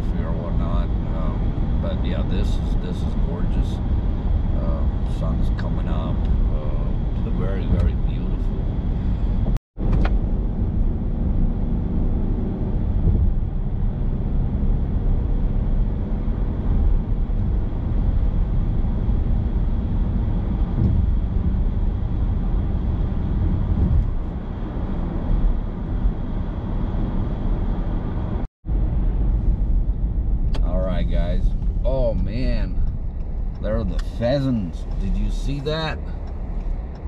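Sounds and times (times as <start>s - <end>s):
road and engine noise in car: 0.0s - 37.0s.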